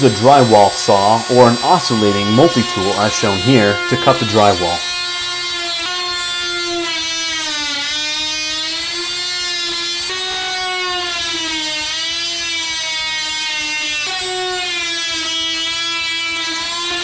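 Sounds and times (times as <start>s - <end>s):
multi-tool cutting drywall: 0.0s - 17.0s.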